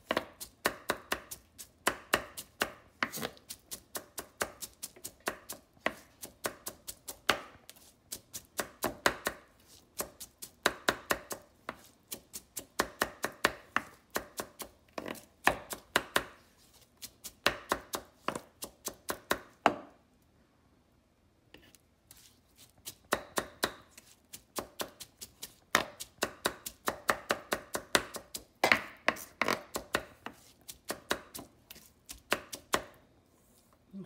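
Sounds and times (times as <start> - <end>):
knife chopping on wooden board: 0.0 - 7.6, 8.4 - 16.4, 17.2 - 19.9, 22.8 - 33.0.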